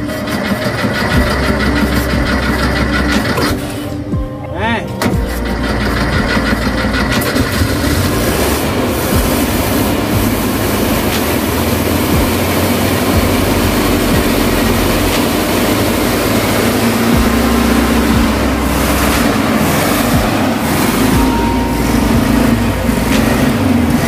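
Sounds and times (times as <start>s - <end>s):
air-cooled engine running: 0.0s - 3.6s, 5.1s - 24.0s.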